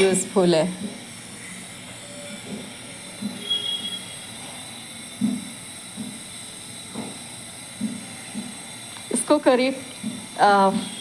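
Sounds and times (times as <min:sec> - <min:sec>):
pot boiling hiss: 0:00.0 - 0:11.0.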